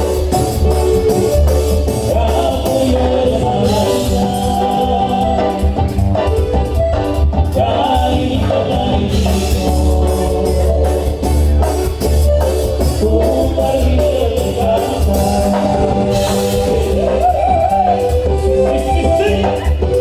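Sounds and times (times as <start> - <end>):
person singing: 0.0 - 6.8, 7.4 - 20.0
regular drum beat: 0.0 - 20.0
steady bass: 0.0 - 20.0.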